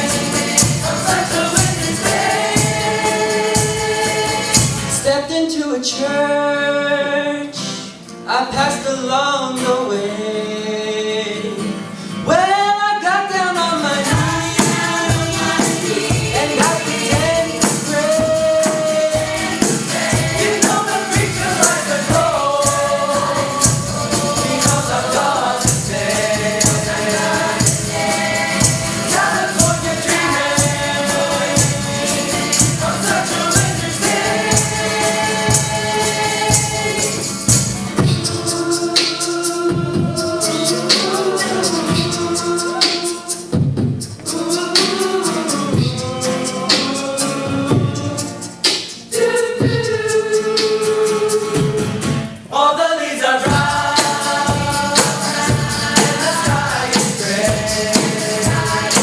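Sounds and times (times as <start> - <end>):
accompaniment with drum beat: 0.0 - 5.1, 14.0 - 52.5, 53.4 - 59.0
vocal ensemble singing in harmony: 0.0 - 59.0.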